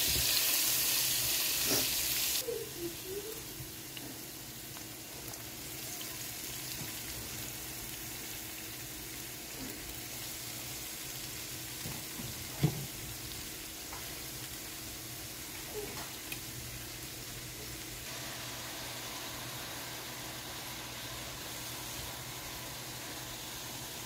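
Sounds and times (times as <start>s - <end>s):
frying pan sizzling: 0.0s - 24.0s.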